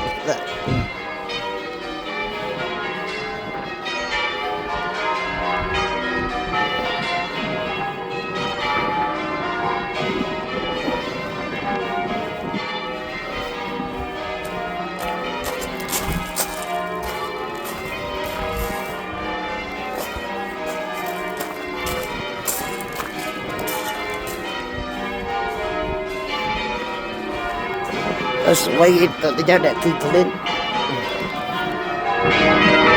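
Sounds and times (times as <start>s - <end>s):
church bells ringing changes: 0.0s - 32.9s.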